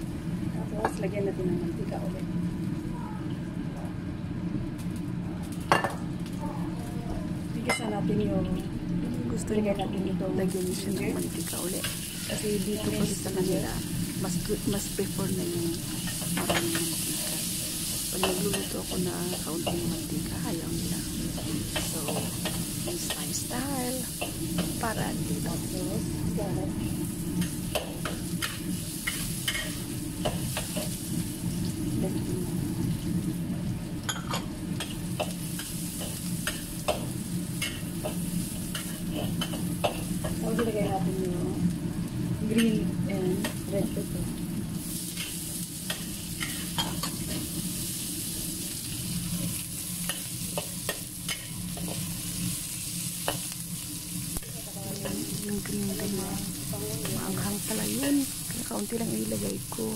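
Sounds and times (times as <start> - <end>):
oil sizzling in wok: 0.0 - 6.5, 7.2 - 59.9.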